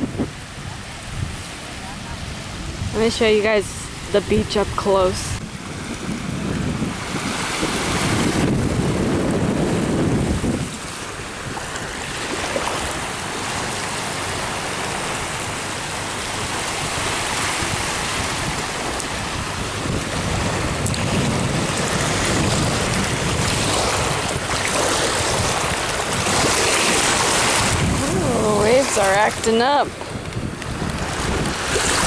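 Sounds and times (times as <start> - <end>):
ocean waves breaking: 0.0 - 32.0
wind on microphone: 0.0 - 32.0.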